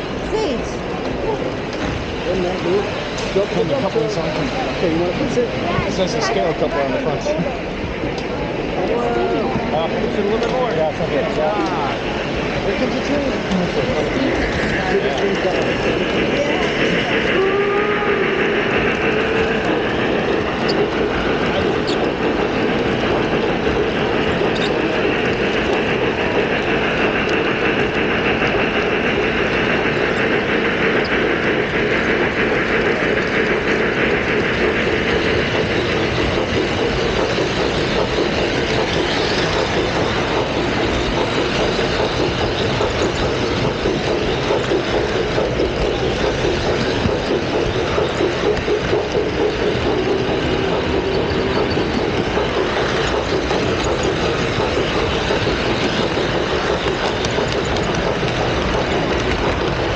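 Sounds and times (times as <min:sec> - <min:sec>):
model train wheels rolling: 0:00.0 - 0:59.9.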